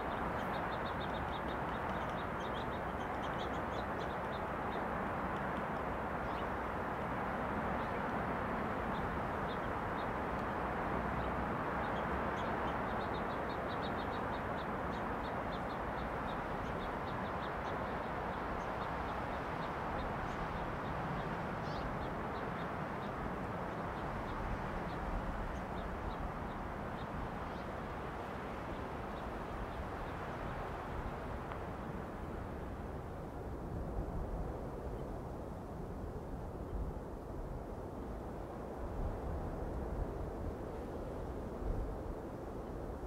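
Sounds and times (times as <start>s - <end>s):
wind through pine trees: 0.0s - 43.0s.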